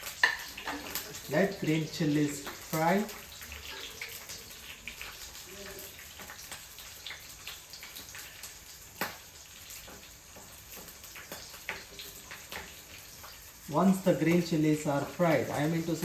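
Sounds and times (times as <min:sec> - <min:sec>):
chilies sizzling in hot oil: 0:00.0 - 0:16.0.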